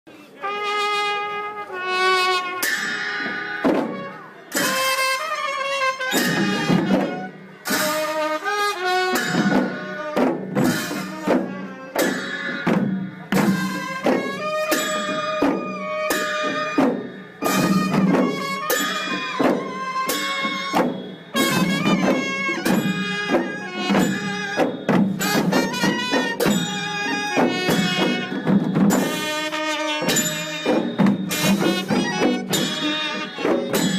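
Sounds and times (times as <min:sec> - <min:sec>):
wind instrument melody: 0:00.2 - 0:33.9
drums in steady rhythm: 0:01.8 - 0:33.9.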